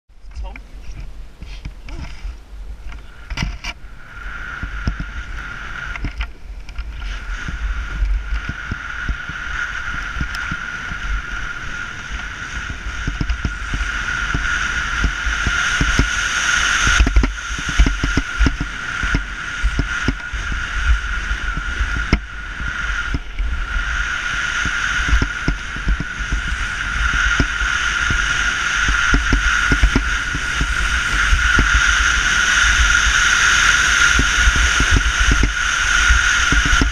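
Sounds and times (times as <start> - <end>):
wind on microphone: 0.1 - 36.9
snowboard sliding over snow: 0.4 - 36.9.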